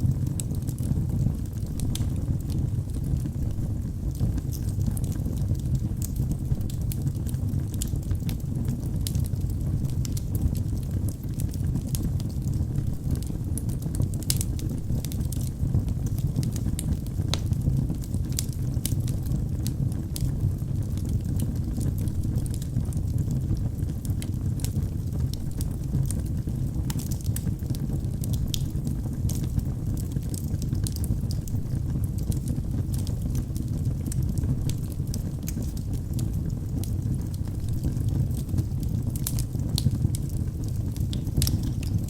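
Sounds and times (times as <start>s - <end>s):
burning wood crackling and popping: 0.0s - 42.0s
low rumble of flames: 0.0s - 42.0s.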